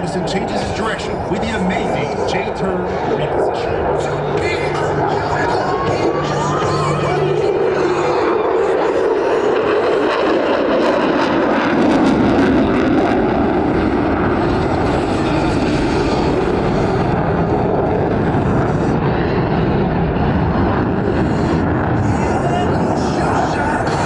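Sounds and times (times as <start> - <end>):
jet engine crackling: 0.0 - 24.0
jet engines roaring: 0.0 - 24.0.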